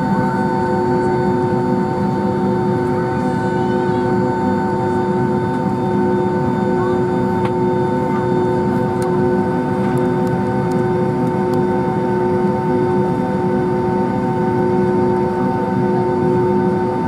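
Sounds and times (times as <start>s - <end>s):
jet engine whining tones: 0.0s - 17.0s
jet engines rumbling: 0.0s - 17.0s.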